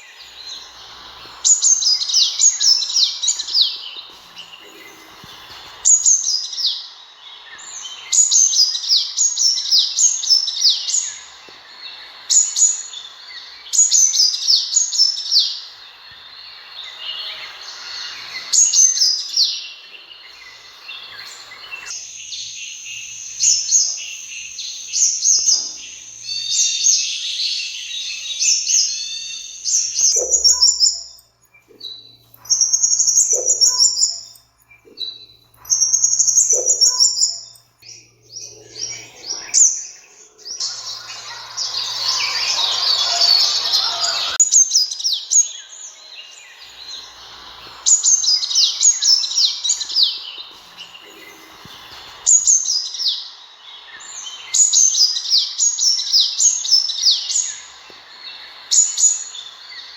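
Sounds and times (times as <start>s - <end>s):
bird chirping: 0.0s - 59.9s
high twittering with trills: 0.0s - 59.9s.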